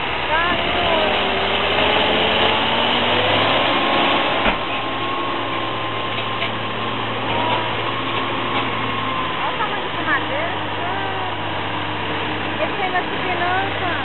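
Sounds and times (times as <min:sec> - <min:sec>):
truck engine running under load: 0:00.0 - 0:14.0.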